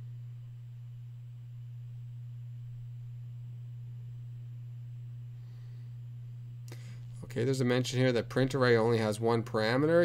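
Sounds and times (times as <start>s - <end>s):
faint high whine: 0.0s - 10.0s
low electrical hum: 0.0s - 10.0s.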